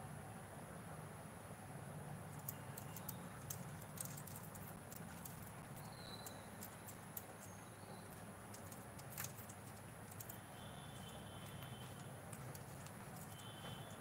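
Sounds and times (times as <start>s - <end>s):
steady low hum: 0.0s - 14.0s
bird claws tapping metal cage: 2.3s - 14.0s.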